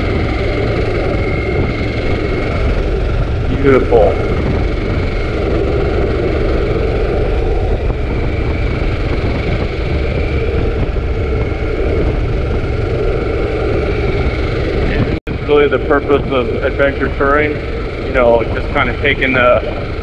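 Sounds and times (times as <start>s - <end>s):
motorcycle engine cruising: 0.0s - 20.0s
wind noise: 0.0s - 20.0s.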